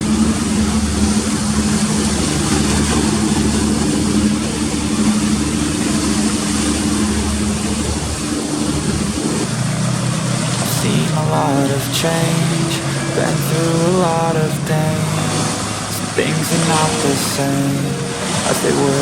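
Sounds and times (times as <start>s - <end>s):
ship engines droning: 0.0s - 19.0s.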